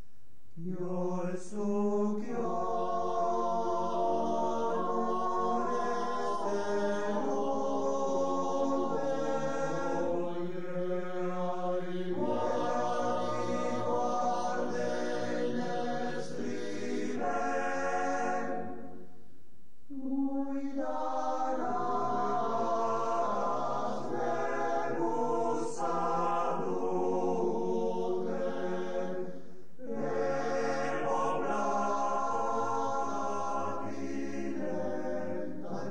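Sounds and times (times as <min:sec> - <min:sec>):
male choir singing in harmony: 0:00.6 - 0:19.0, 0:19.9 - 0:35.9.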